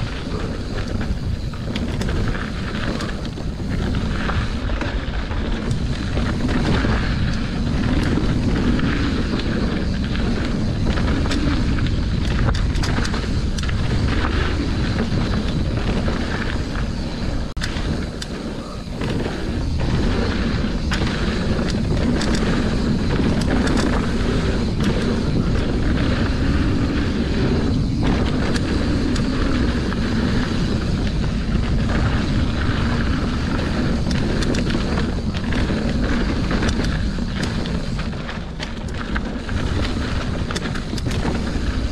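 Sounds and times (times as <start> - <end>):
bike rattling over bumps: 0.0 - 41.9
tyres rushing on dirt: 0.0 - 41.9
wind buffeting microphone: 0.0 - 41.9.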